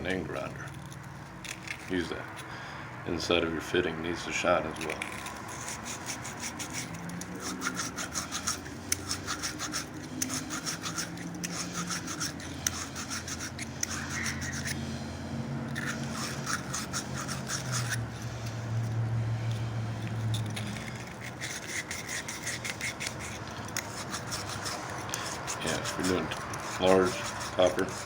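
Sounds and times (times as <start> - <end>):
emery cloth scrubbing copper fitting: 4.4 - 28.0.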